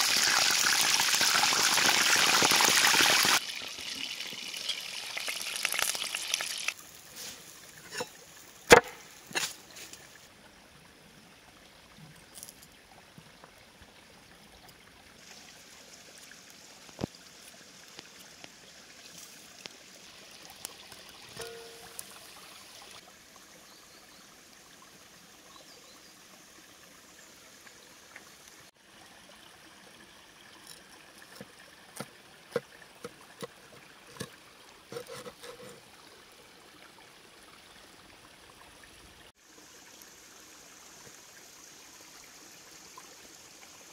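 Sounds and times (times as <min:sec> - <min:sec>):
stream running: 0:00.0 - 0:43.9.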